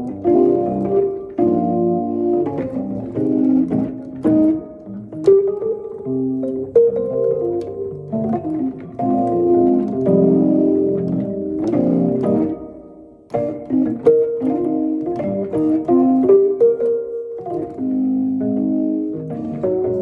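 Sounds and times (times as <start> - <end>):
electric piano chords: 0.0 - 20.0.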